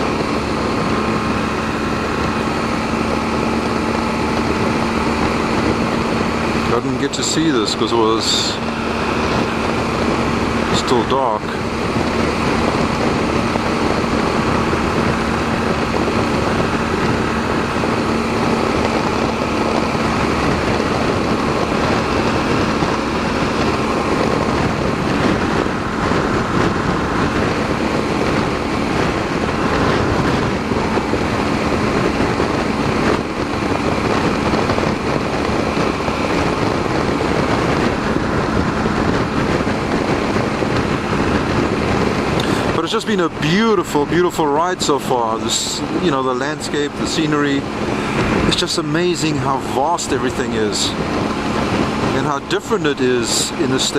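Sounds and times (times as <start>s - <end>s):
motorcycle engine hum: 0.0s - 53.9s
wind and road noise: 0.0s - 53.9s.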